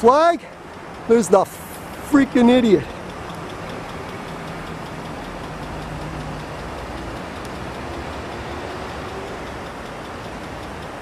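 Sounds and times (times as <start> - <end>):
outdoor traffic rumble: 0.0 - 11.0.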